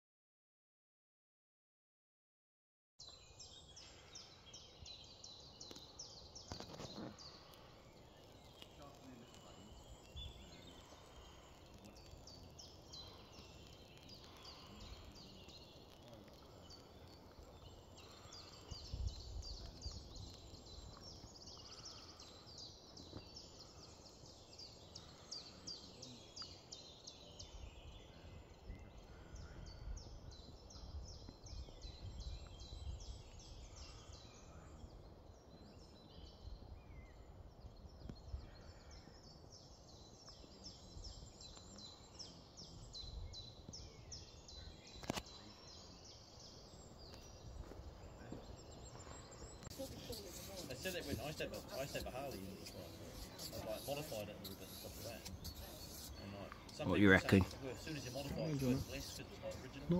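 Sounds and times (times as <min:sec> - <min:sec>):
birds chirping: 0:03.0 - 0:59.9.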